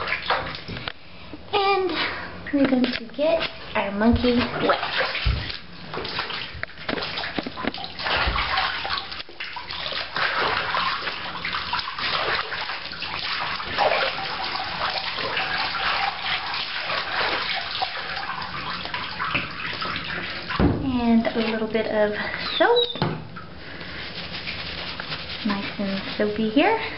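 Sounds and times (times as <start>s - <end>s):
bath water running and splashing: 0.0s - 1.0s, 1.6s - 26.9s.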